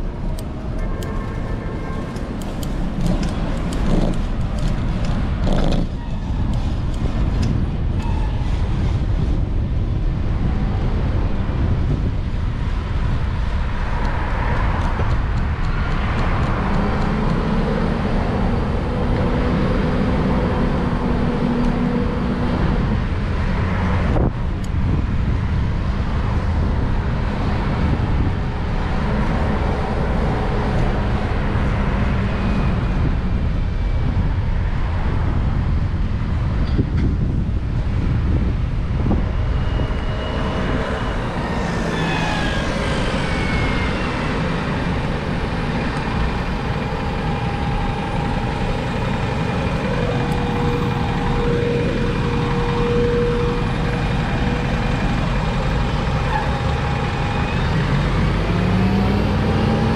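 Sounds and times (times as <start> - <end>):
steady low rumble: 0.0 - 58.3
vehicle engines passing: 0.0 - 59.9.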